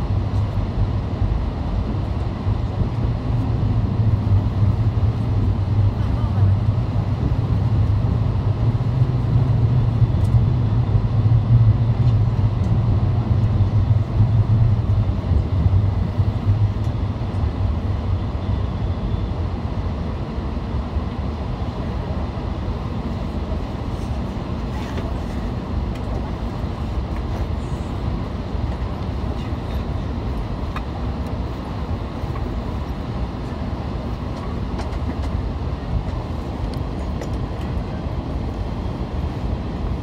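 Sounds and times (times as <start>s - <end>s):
train carriage running hum: 0.0s - 40.0s.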